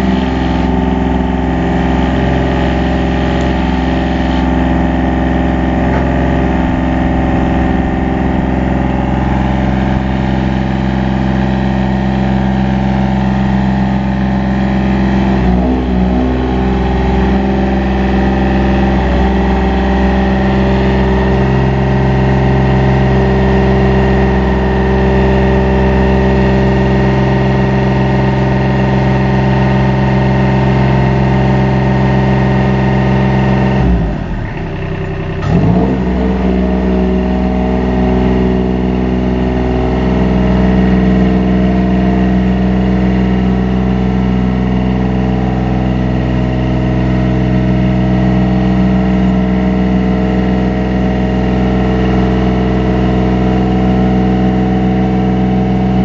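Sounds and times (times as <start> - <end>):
combustion engine running: 0.0 - 56.0.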